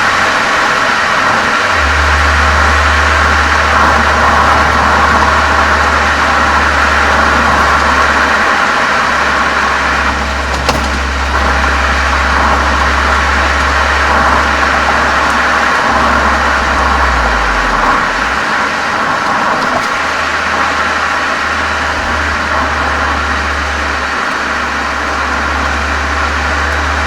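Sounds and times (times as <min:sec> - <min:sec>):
car exhaust drone: 0:00.0 - 0:27.0.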